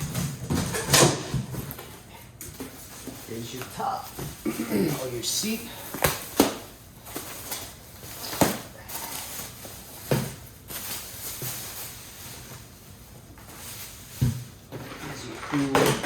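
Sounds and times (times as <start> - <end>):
packaging rustling: 0.0 - 16.0.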